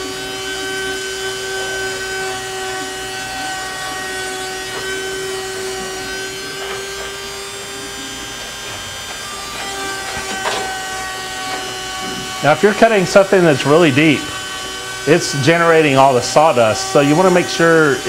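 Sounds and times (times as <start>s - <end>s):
router bit cutting wood: 0.0s - 18.0s
router spindle motor whining: 0.0s - 18.0s.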